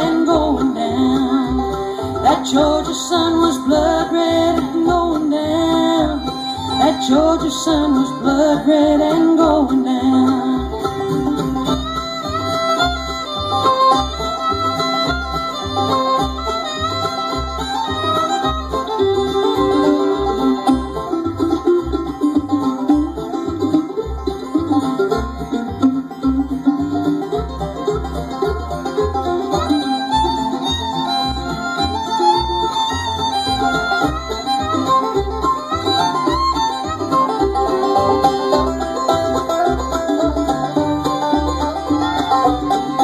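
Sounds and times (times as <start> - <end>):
banjo lead: 0.0 - 43.0
fiddle: 0.0 - 43.0
guitar: 0.0 - 43.0
upright bass: 0.0 - 43.0.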